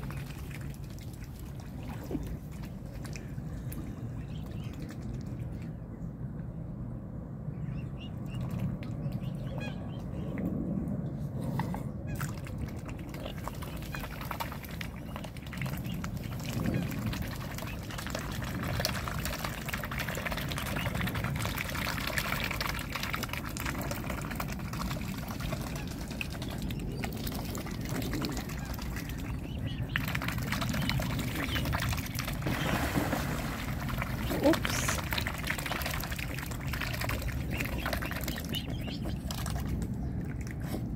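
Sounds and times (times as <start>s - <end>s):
small splashes and sloshing water: 0.0s - 5.8s, 12.0s - 40.9s.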